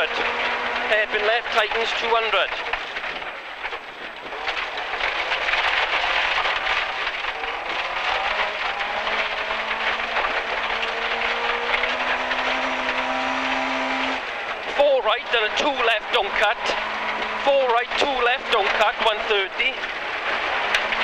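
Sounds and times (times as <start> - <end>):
gravel rattling against underbody: 0.0 - 21.0
rally car engine accelerating: 0.0 - 21.0.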